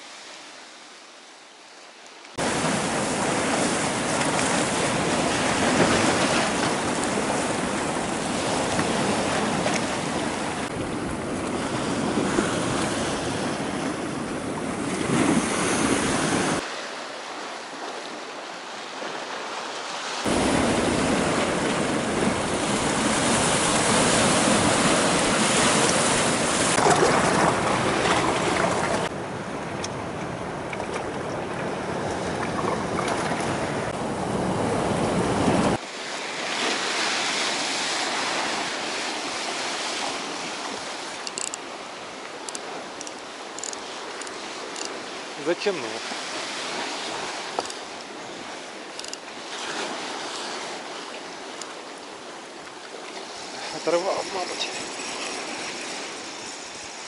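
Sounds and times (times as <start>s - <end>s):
waves washing against shore: 2.3s - 57.0s.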